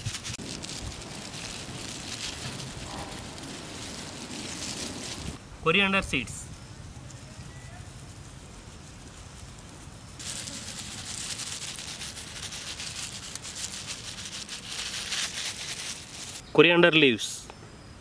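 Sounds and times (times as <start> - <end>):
insects buzzing: 0.3 - 18.0.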